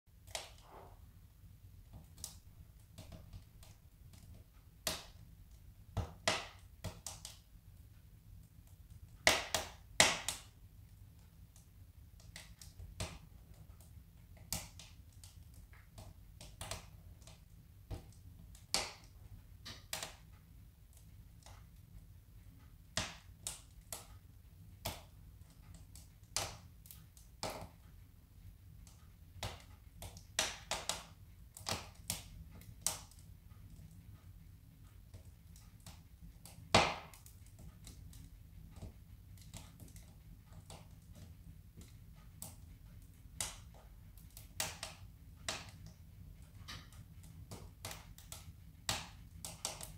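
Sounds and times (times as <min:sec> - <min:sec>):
wood fire crackling and popping: 0:00.2 - 0:49.9.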